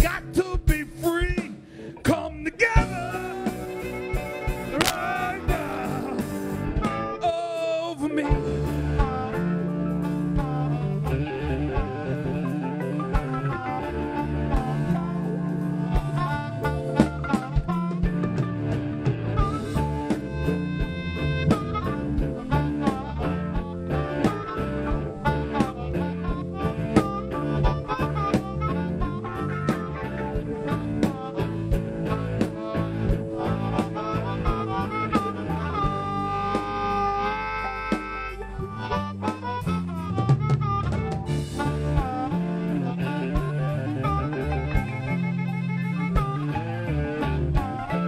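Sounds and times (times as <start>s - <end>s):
drum kit keeping a steady beat: 0.0s - 1.8s, 2.6s - 7.3s, 8.1s - 48.0s
electric bass: 0.0s - 48.0s
electric guitar: 0.0s - 48.0s
harmonica: 0.0s - 48.0s.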